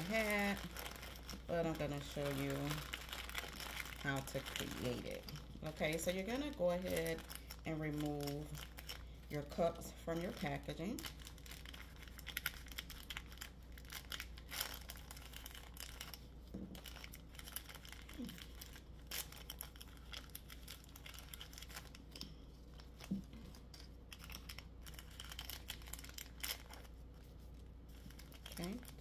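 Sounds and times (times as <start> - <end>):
plastic wrappers crinkling: 0.0 - 29.0.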